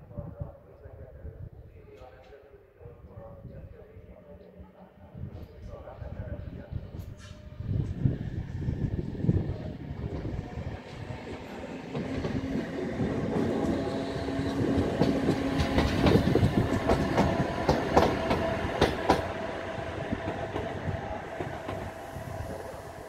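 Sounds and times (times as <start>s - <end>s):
electric locomotive humming: 4.2s - 23.0s.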